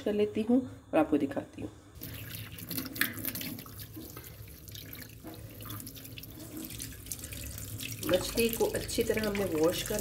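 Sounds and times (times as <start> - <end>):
fish rubbed and rinsed by hand: 2.0 - 10.0
tap water running into a sink: 2.0 - 10.0.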